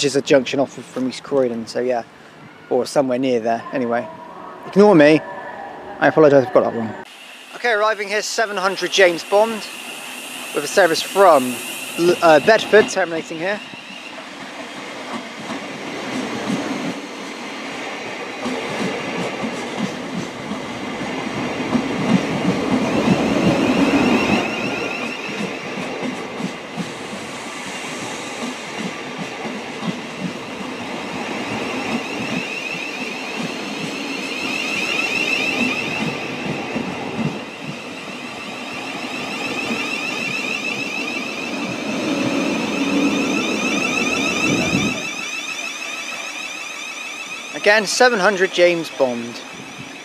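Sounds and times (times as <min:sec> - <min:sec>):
train high whine: 0:00.0 - 0:50.0.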